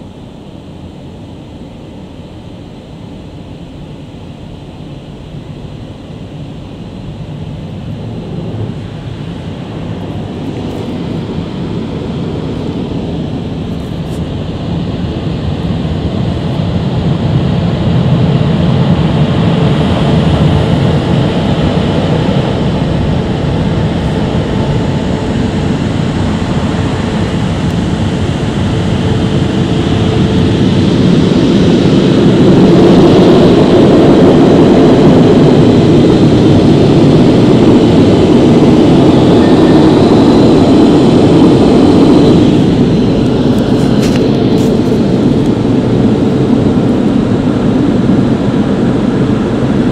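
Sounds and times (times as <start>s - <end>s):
drying blowers rushing air: 0.0s - 49.9s.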